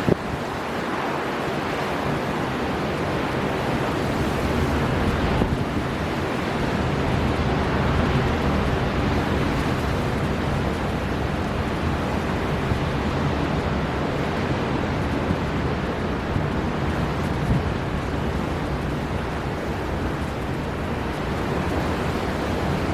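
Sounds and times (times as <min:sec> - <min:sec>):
ocean surf breaking: 0:00.0 - 0:22.9
storm wind blowing: 0:00.0 - 0:22.9.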